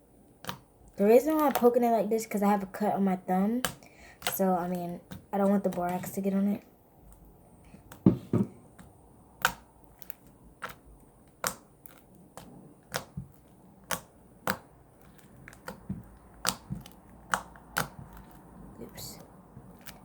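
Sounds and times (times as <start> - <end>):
slime clicking and popping: 0.4 - 1.7, 3.6 - 6.1, 7.0 - 8.1, 8.7 - 20.0.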